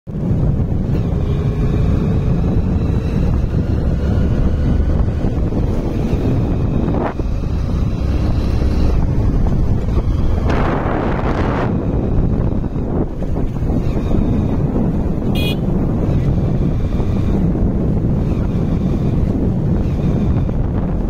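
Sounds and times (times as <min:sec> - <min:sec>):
motorcycle engine running: 0:00.1 - 0:21.0
wind buffeting microphone: 0:00.1 - 0:21.0.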